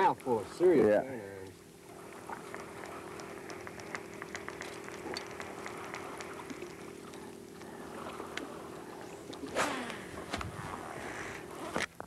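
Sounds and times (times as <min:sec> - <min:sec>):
steady low hum: 0:00.0 - 0:12.0
water lapping against boat hull: 0:00.0 - 0:12.0.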